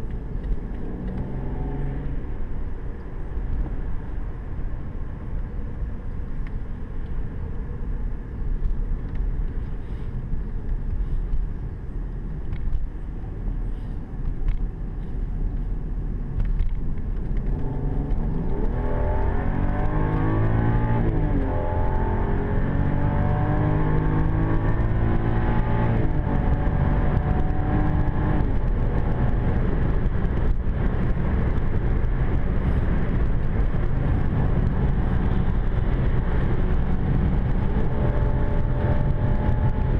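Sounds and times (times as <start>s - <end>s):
tyre and road rumble: 0.0s - 39.9s.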